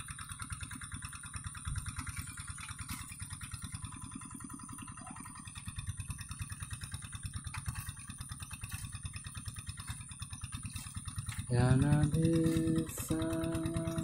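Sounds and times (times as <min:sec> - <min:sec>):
diesel tractor engine chugging: 0:00.0 - 0:14.0.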